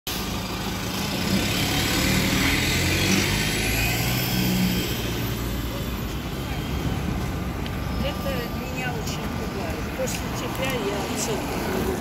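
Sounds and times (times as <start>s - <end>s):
city traffic noise: 0.1s - 12.0s
trolleybus low hum: 0.1s - 12.0s.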